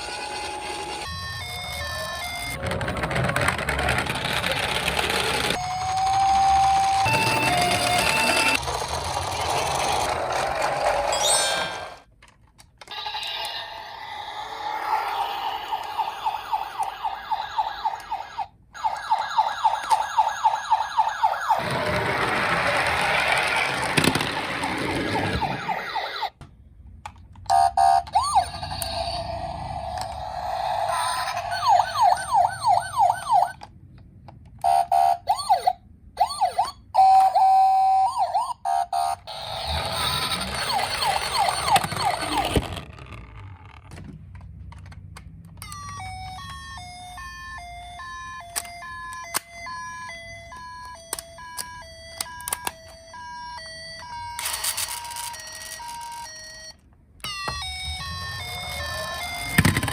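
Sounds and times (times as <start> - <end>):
toy sirens yelping: 0.0 - 11.9, 12.9 - 26.4, 27.5 - 33.7, 34.6 - 43.0, 45.6 - 59.9.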